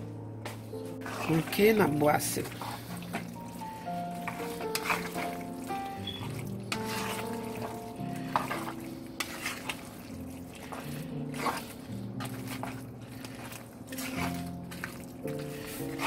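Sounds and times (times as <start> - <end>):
background music: 0.0 - 16.0
spatula scraping and knocking pan: 0.8 - 16.0
spatula stirring pasta in pan: 0.8 - 16.0.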